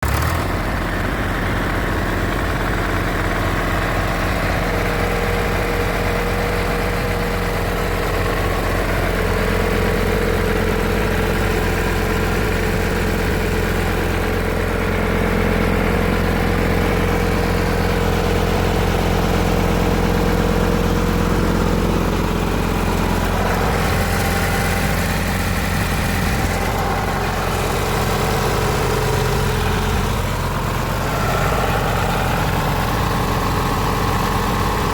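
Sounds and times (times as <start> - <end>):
motor humming: 0.0 - 34.9.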